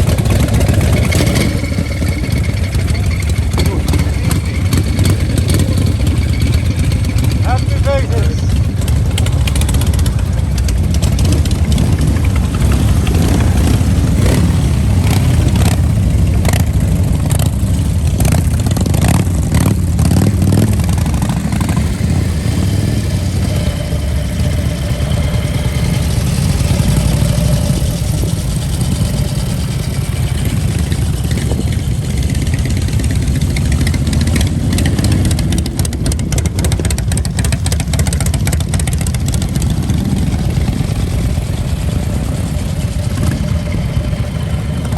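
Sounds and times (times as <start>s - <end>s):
vehicle engines revving: 0.0s - 44.9s.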